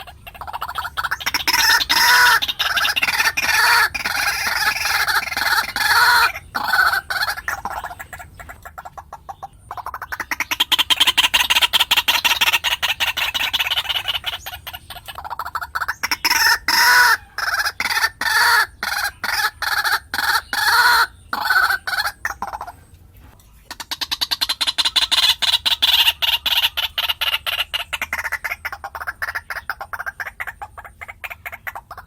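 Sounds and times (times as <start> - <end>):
bird croaking calls: 0.0 - 23.0, 23.7 - 32.0.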